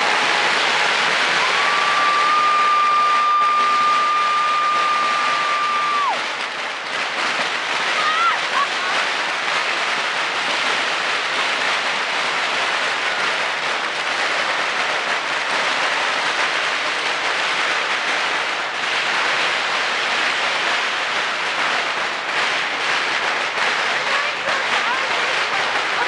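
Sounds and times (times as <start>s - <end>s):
firecrackers crackling: 0.0s - 26.0s.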